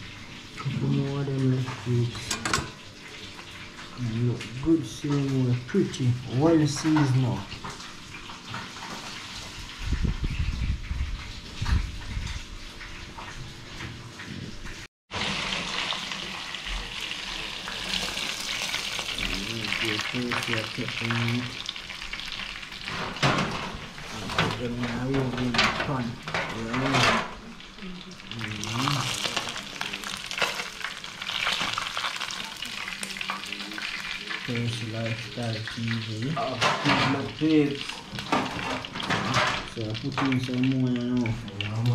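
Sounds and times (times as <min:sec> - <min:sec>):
fish sizzling in hot oil: 0:00.0 - 0:14.1, 0:15.1 - 0:25.1, 0:25.9 - 0:41.9.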